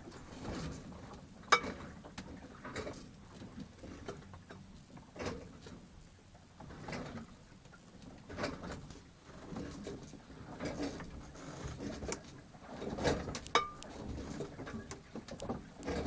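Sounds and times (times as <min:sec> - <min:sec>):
choppy water around a boat: 0:00.0 - 0:16.0.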